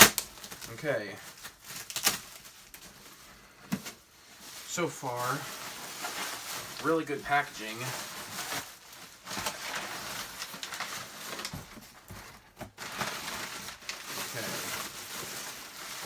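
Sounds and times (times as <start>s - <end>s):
packing material rustling and crinkling: 0.0s - 16.0s.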